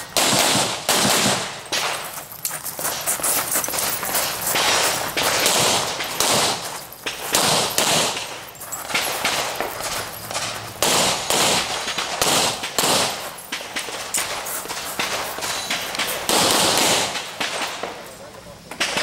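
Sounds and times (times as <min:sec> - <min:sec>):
pistol shots with echo: 0:00.0 - 0:02.1, 0:04.4 - 0:18.0.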